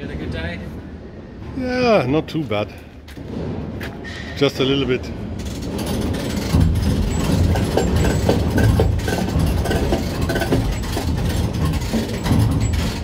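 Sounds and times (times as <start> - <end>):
heavy machinery engine rumble: 0.0 - 13.0.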